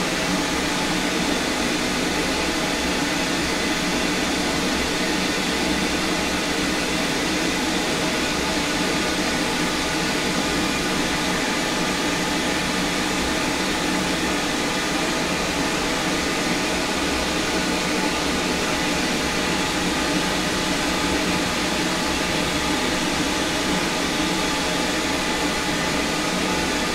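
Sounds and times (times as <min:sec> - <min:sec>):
machine whirring and hissing: 0:00.0 - 0:26.9.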